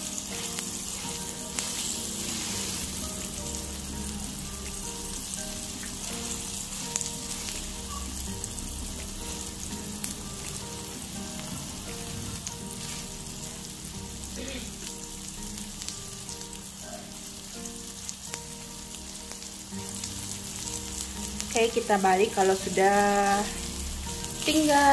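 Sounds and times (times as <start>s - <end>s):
steak sizzling in a pan: 0.0s - 24.9s.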